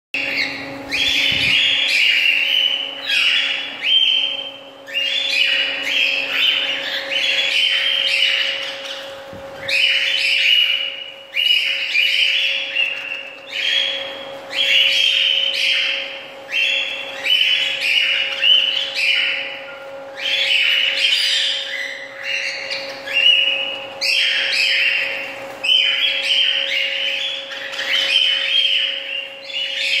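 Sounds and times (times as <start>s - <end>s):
cockatiels chirping: 0.2s - 30.0s.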